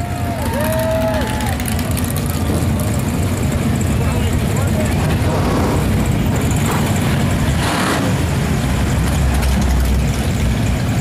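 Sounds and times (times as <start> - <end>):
car engines driving slowly past: 0.0 - 11.0.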